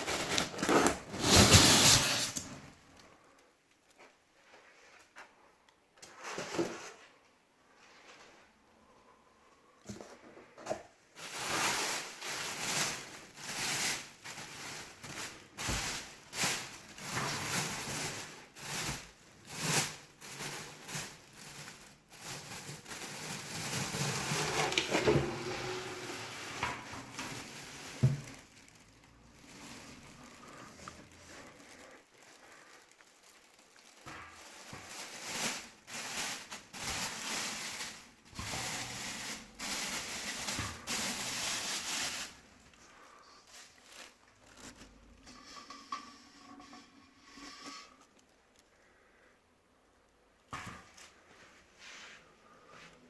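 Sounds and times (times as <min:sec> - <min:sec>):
packaging rustling and crinkling: 0:00.0 - 0:05.2, 0:09.9 - 0:46.2, 0:48.0 - 0:49.2.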